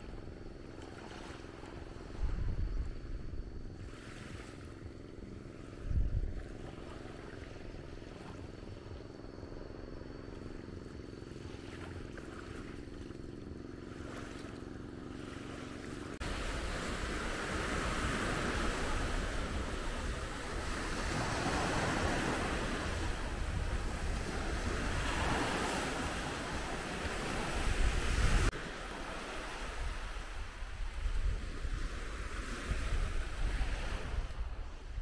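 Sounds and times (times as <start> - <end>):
wind buffeting microphone: 1.4 - 11.1, 16.2 - 35.0.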